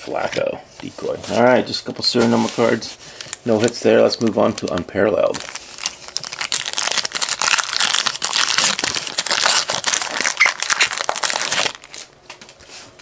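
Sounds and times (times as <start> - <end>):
foil wrapper crinkling: 1.3 - 12.6.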